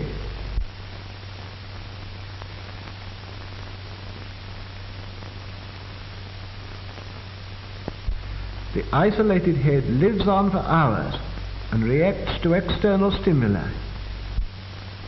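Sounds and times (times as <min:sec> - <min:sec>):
old film soundtrack hiss and hum: 0:00.0 - 0:15.0.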